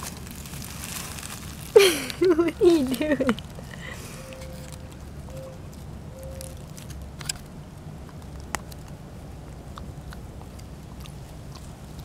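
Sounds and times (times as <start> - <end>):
puppy chewing: 0.0 - 12.0.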